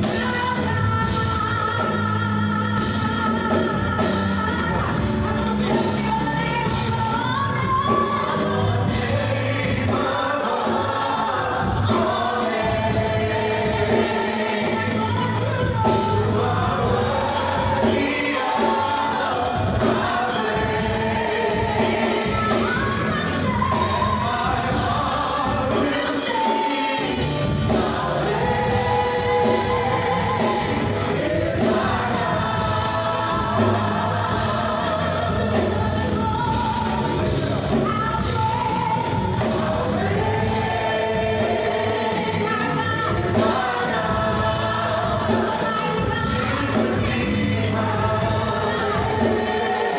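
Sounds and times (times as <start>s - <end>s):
band playing: 0.0s - 49.9s
gospel choir singing: 0.0s - 49.9s.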